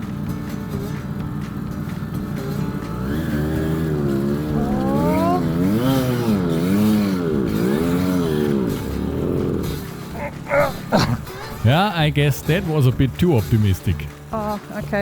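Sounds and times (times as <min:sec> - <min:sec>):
motorcycle engine revving: 0:00.0 - 0:12.7.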